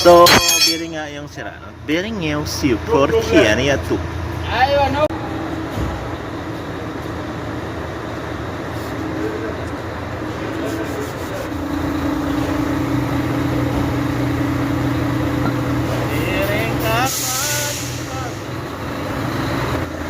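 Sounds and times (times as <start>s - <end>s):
heavy truck running: 0.0s - 20.0s.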